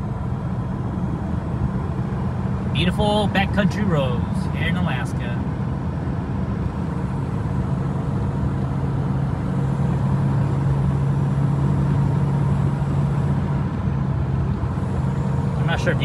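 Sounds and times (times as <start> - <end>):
engine drone: 0.0 - 16.0
road and tyre noise: 0.0 - 16.0.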